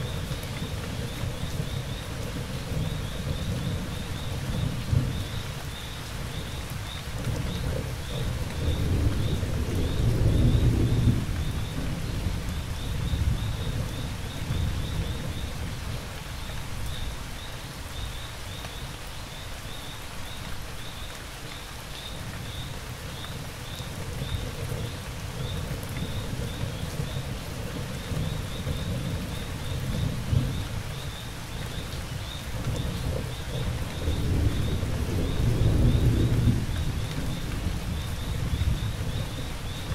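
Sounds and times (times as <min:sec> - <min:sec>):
thunder rumbling: 0:00.0 - 0:16.9, 0:22.3 - 0:39.9
crickets chirping: 0:00.0 - 0:39.9
steady rainfall: 0:00.0 - 0:39.9.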